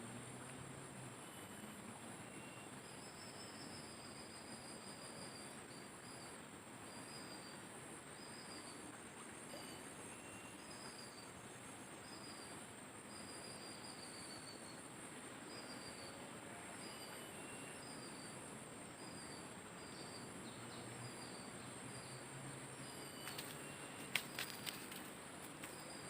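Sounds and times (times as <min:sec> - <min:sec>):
faint hiss: 0:00.0 - 0:26.0
insects trilling: 0:01.0 - 0:26.0.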